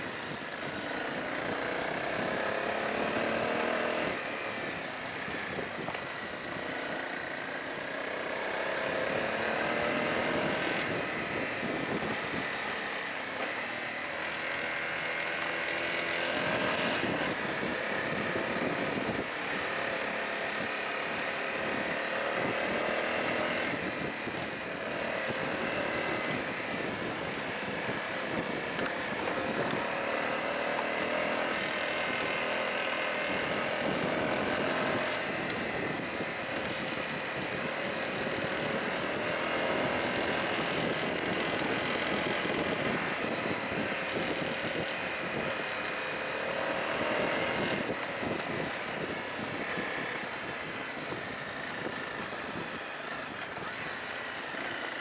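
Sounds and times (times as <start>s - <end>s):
motorcycle engine revving: 0.0s - 55.0s
steady rushing noise: 0.0s - 55.0s.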